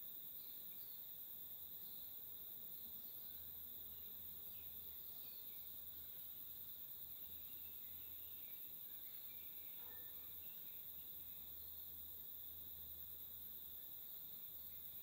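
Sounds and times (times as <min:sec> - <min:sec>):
faint insect chirps: 0:00.0 - 0:15.0
insect chorus shrilling: 0:00.0 - 0:15.0.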